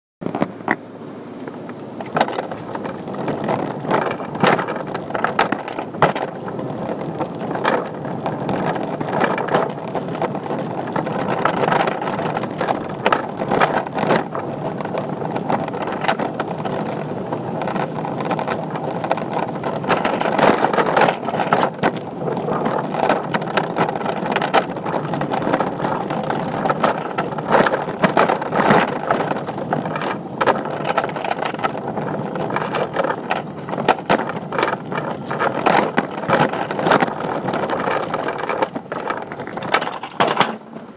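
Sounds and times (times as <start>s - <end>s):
cart wheels rolling and clicking: 0.2s - 40.9s.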